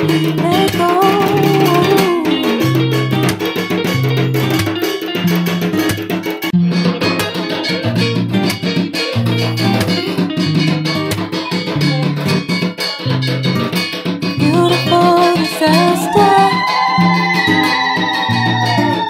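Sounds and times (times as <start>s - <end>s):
plucked guitar music with beat: 0.0s - 19.0s.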